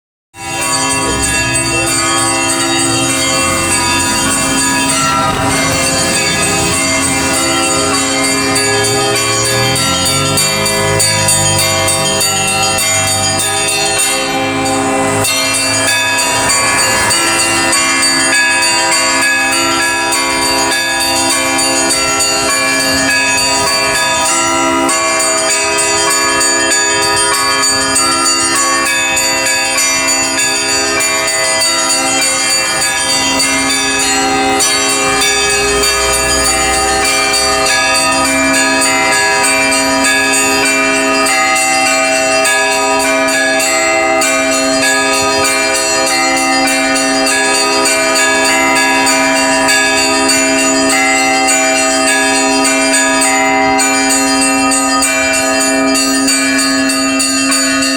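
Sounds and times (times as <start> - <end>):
church bells pealing: 0.4 - 57.9
low bells struck: 0.4 - 57.9.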